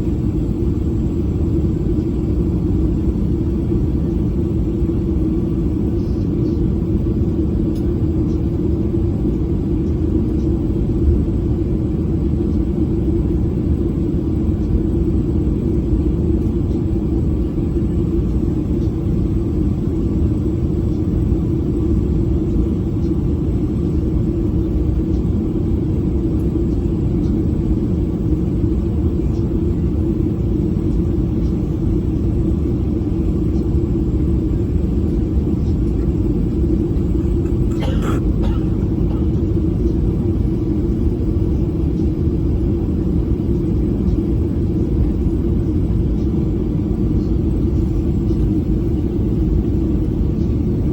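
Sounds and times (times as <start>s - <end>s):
airplane cabin engine rumble: 0.0s - 50.9s.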